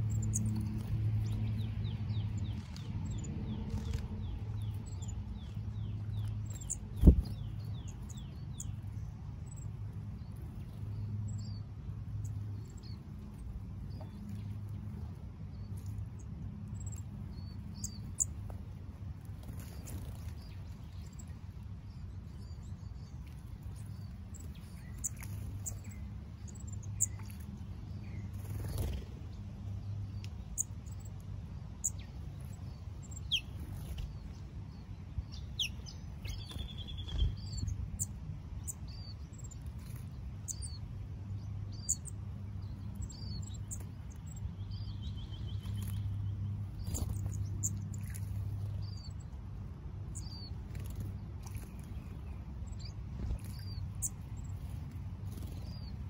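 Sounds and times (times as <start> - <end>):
small birds chirping: 0.0 - 56.0
steady low hum: 0.0 - 56.0.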